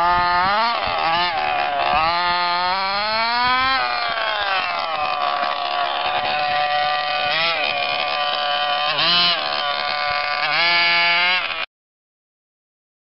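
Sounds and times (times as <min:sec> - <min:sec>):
two-stroke engine revving: 0:00.0 - 0:11.7.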